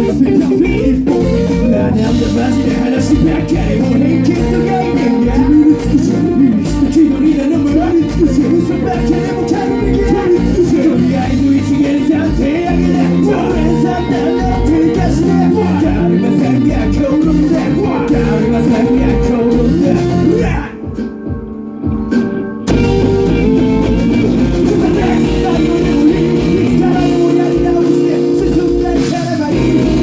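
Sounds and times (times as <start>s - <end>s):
person singing: 0.0s - 21.1s, 22.7s - 30.0s
live band music: 0.0s - 30.0s.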